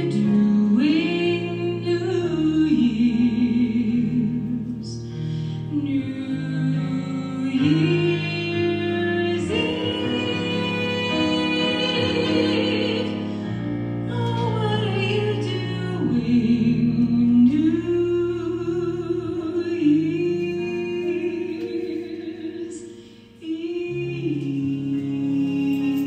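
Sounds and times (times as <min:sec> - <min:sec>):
woman singing with vibrato: 0:00.0 - 0:05.0, 0:05.7 - 0:26.0
symphony orchestra: 0:00.0 - 0:26.0.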